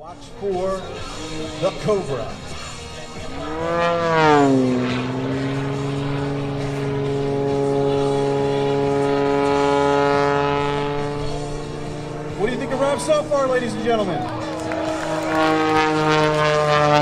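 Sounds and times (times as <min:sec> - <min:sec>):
propeller airplane engine: 0:00.0 - 0:17.0.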